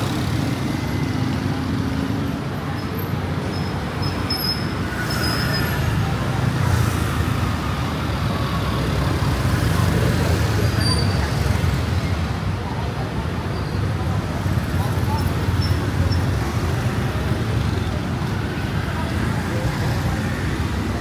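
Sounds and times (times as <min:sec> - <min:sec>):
vehicle engines and road noise: 0:00.0 - 0:21.0.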